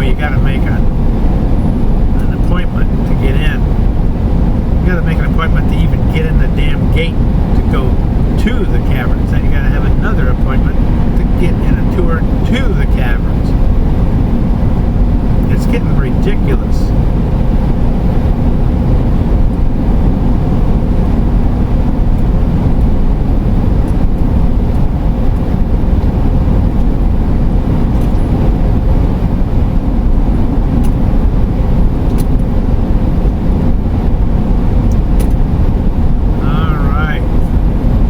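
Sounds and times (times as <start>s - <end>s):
van road and engine rumble: 0.0s - 38.0s.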